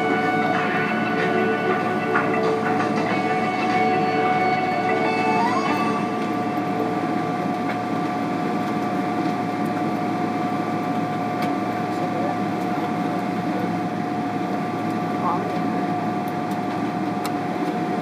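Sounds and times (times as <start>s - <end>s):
airliner cabin hum and whine: 0.0s - 18.0s.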